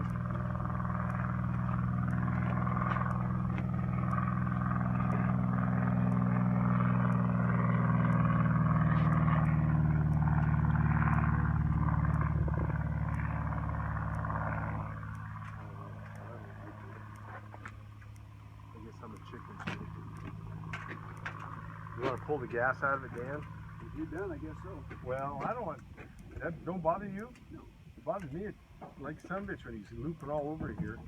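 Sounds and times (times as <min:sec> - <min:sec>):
piston engine droning: 0:00.0 - 0:31.0.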